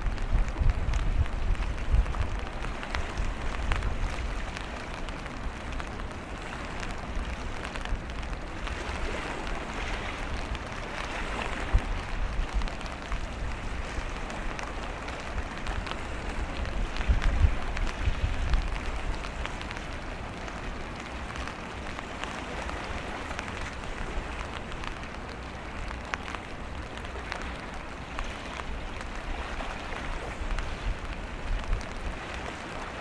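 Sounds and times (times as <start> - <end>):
raindrop ticks: 0.0 - 33.0
wind gusting on microphone: 0.0 - 33.0.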